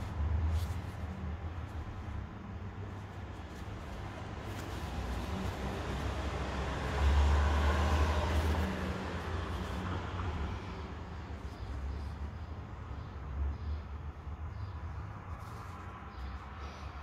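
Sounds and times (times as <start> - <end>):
vehicle rumbling past: 0.0 - 17.0.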